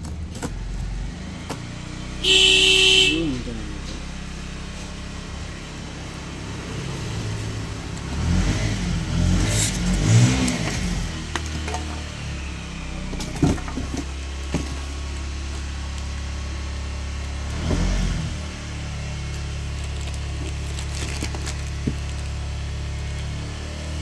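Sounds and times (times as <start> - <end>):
low engine-like hum: 0.0 - 24.0.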